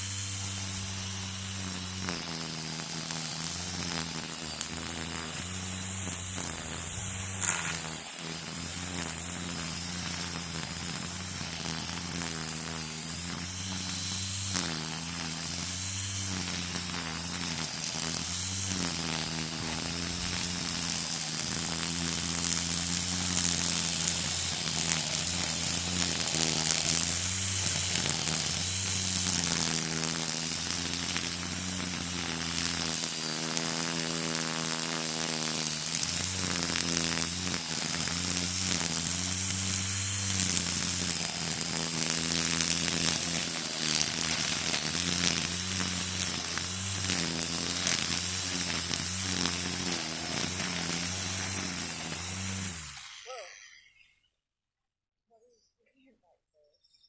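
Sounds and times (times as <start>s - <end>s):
string trimmer engine running: 0.0s - 54.0s
cutting line hissing: 0.0s - 54.1s.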